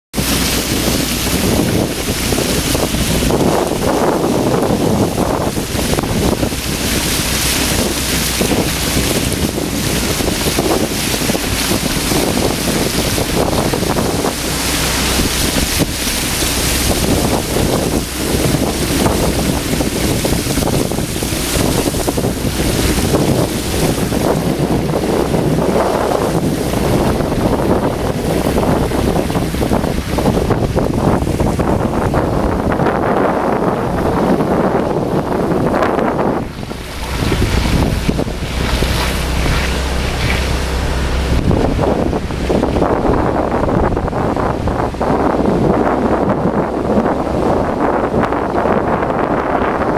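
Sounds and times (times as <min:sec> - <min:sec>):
floodwater rushing: 0:00.1 - 0:49.9
wind buffeting microphone: 0:00.1 - 0:49.9.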